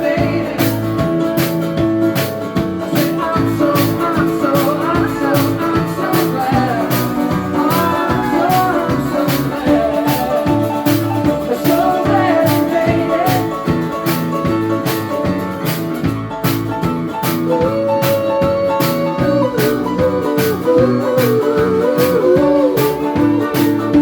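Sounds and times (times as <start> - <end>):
bending lead guitar melody: 0.0 - 24.0
rock band playing live: 0.0 - 24.0.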